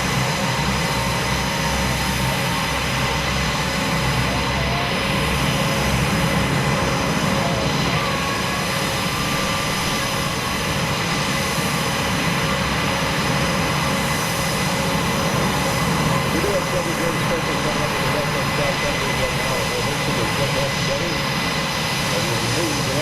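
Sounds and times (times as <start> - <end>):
aircraft engine noise: 0.0 - 23.0.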